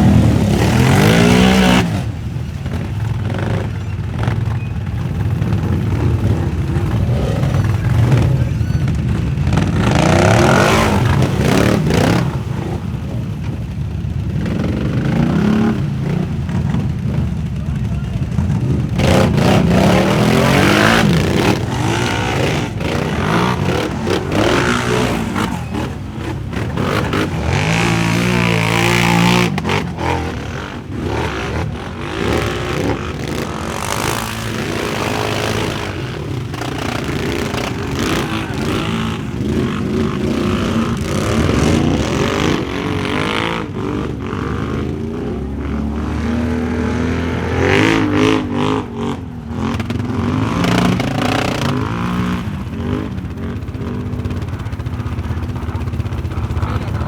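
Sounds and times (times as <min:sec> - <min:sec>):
quad bike engines revving: 0:00.0 - 0:57.0.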